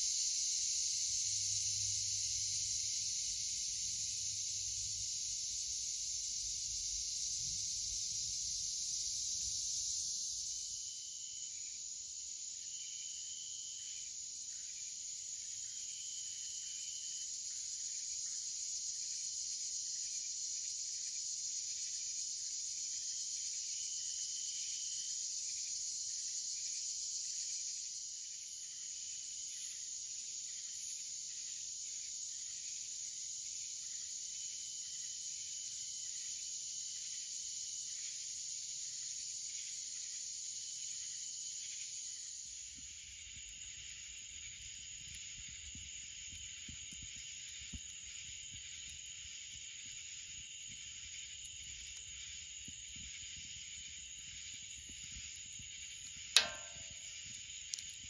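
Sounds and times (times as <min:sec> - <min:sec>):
crickets hissing: 0:00.0 - 0:58.0
insect trill: 0:00.0 - 0:58.0.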